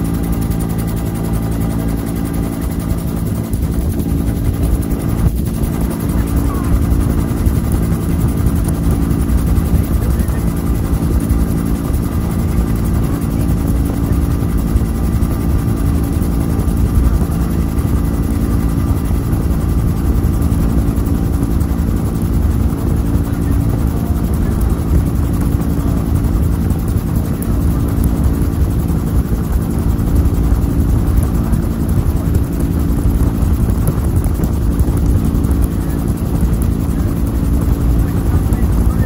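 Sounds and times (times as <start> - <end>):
helicopter turbine and rotor: 0.0 - 39.0.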